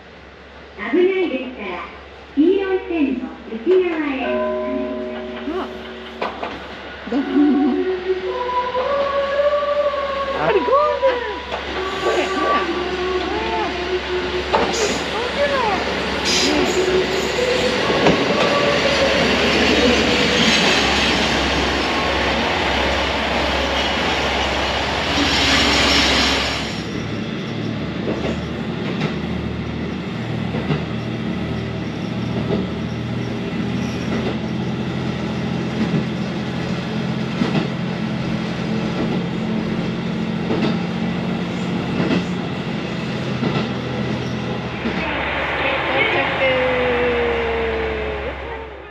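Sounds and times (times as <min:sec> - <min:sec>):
diesel railcar arriving: 0:00.0 - 0:48.9.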